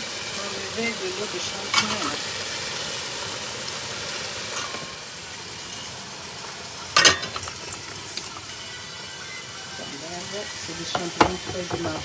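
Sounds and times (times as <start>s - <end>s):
mushrooms sizzling in oil: 0.0s - 12.0s.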